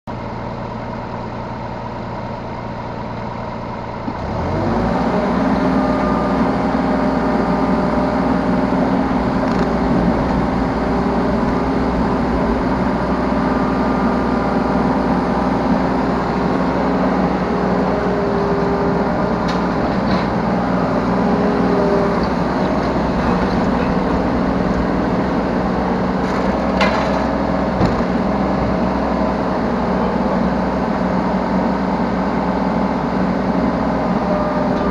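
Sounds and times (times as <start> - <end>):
excavator diesel engine: 0.0 - 34.9.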